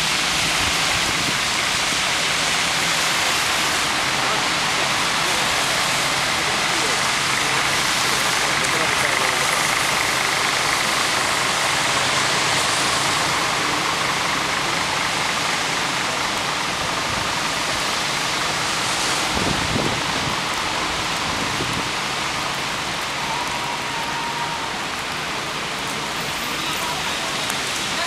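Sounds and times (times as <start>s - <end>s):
heavy rain hissing: 0.0s - 28.0s
traffic on wet road: 0.0s - 28.0s.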